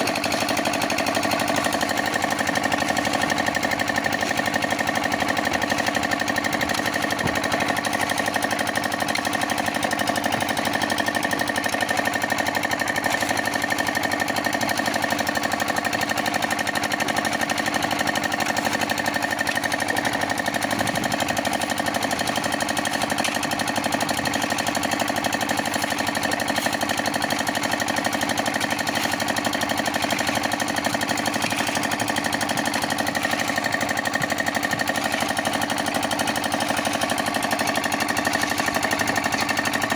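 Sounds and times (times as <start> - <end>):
concrete mixer rattling: 0.0 - 39.9.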